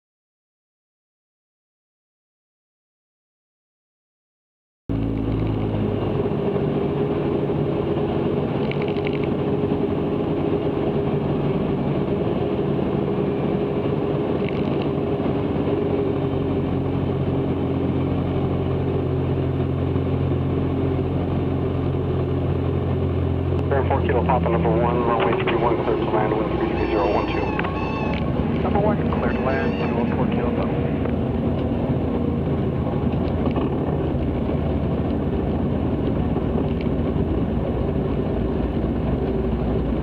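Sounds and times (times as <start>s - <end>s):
aircraft engine and propeller droning: 4.9s - 40.0s.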